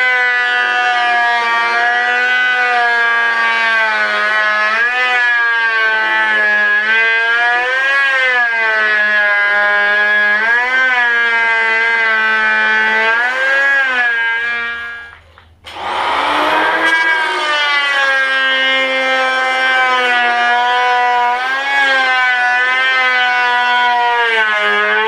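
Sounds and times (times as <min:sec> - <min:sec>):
electric planer whining: 0:00.0 - 0:25.0.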